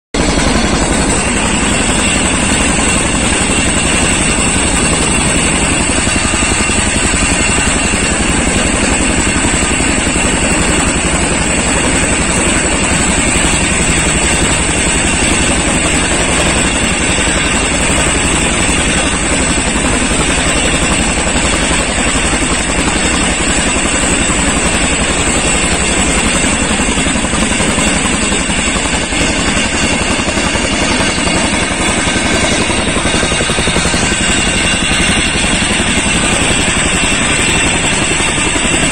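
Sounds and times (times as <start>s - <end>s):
helicopter rotor and turbine noise: 0.1s - 38.9s.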